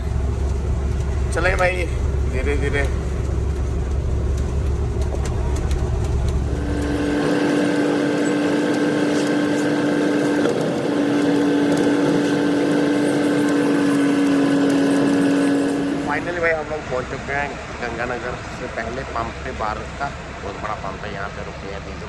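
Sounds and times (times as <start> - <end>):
constant droning tone: 0.0 - 22.0
truck engine and road noise: 0.0 - 22.0.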